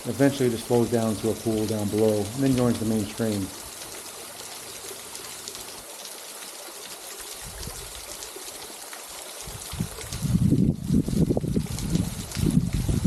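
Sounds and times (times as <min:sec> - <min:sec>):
water trickling into a pool: 0:00.0 - 0:13.0.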